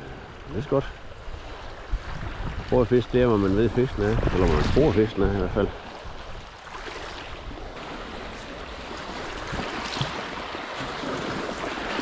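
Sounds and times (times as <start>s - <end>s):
small waves washing along shore: 0.0s - 12.0s.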